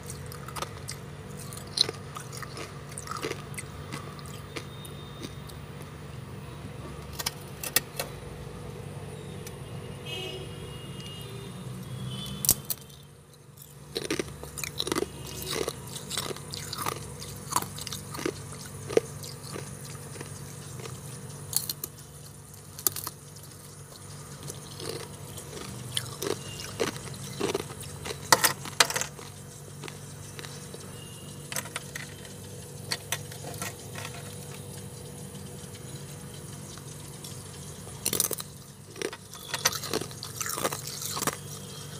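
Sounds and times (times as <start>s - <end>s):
crunching and chewing ice: 0.0s - 7.8s, 11.8s - 41.9s
steady low hum: 0.0s - 41.9s.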